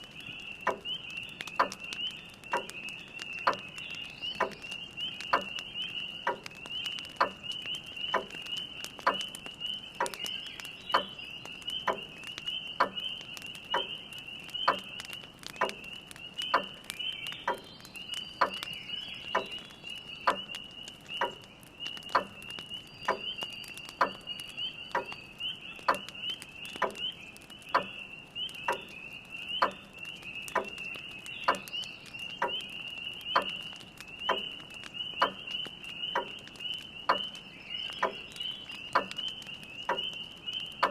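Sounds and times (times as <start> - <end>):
frogs chorus: 0.0 - 40.9.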